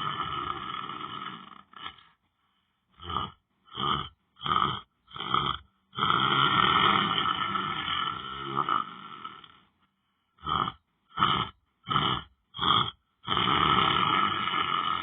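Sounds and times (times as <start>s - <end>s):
person snoring: 0.0s - 2.2s, 2.9s - 9.8s, 10.4s - 15.0s.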